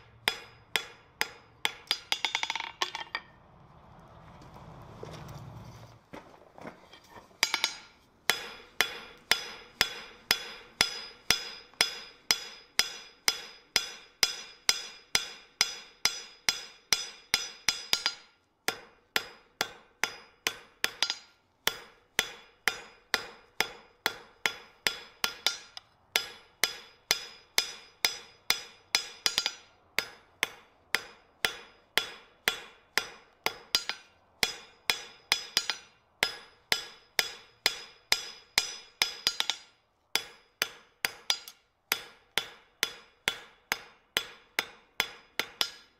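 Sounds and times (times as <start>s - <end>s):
hammer ringing on anvil: 0.2s - 3.3s, 7.4s - 45.9s.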